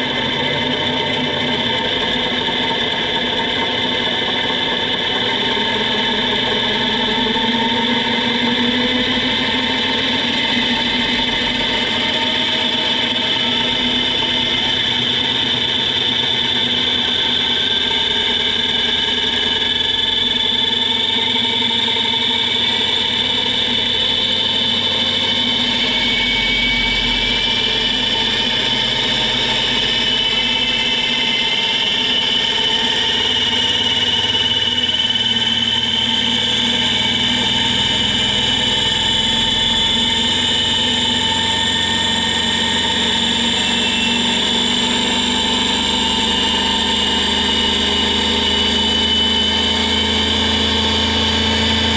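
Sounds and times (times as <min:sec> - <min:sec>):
gear train mechanical whine: 0:00.0 - 0:51.9.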